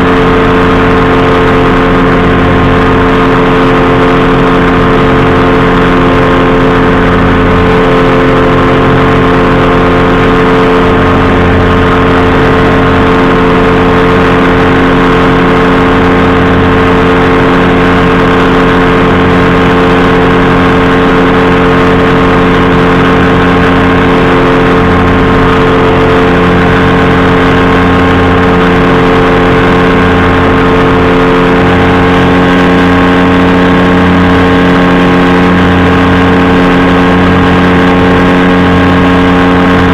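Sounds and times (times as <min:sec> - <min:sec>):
engine and propeller droning: 0:00.0 - 0:39.9.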